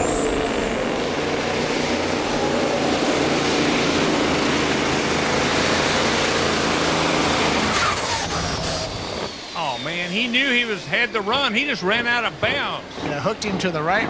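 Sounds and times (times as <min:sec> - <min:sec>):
high whine falling in pitch: 0:00.0 - 0:12.9
diesel truck engine at full power: 0:00.0 - 0:14.0.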